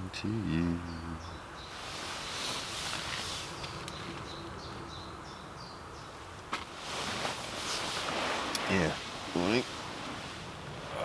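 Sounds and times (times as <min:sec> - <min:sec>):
soft outdoor hiss: 0:00.0 - 0:11.0.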